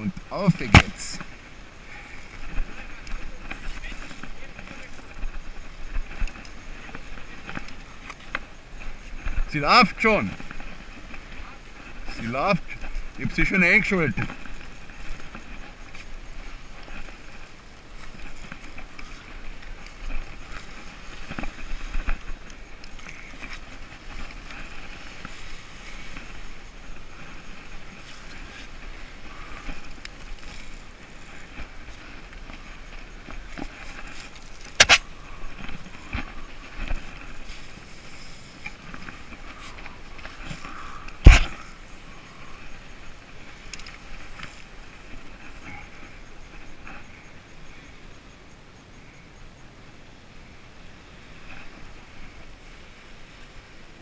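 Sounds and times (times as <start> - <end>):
handling rustle: 0.2 - 46.7.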